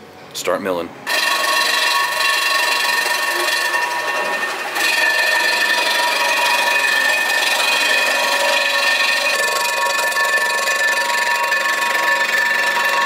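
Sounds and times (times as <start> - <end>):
milling machine cutting whine: 1.1 - 13.0.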